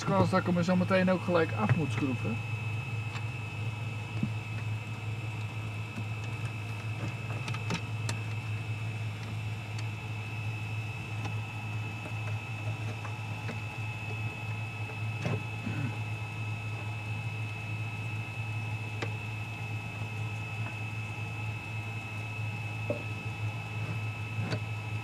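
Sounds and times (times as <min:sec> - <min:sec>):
heater humming and whining: 0:00.0 - 0:25.0.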